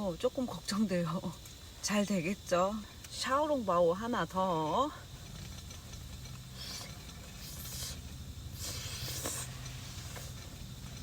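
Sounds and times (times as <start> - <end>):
steady low rumble: 0.0 - 11.0
gas hissing: 1.0 - 11.0.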